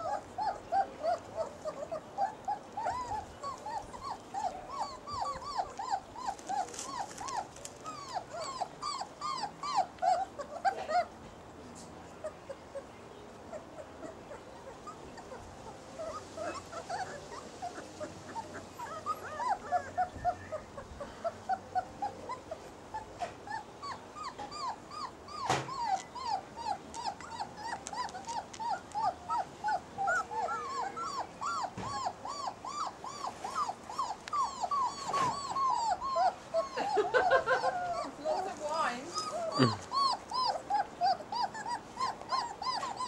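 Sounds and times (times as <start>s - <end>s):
puppies whimpering and squeaking: 0.0s - 11.2s, 12.1s - 43.0s.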